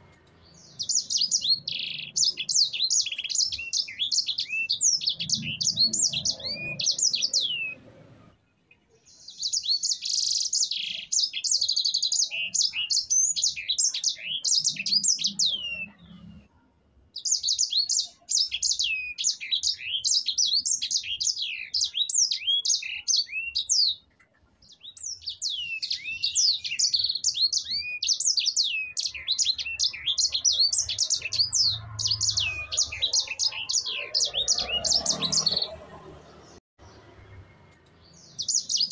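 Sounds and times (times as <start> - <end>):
finch singing: 0.0 - 8.0, 9.0 - 16.4, 17.2 - 38.9.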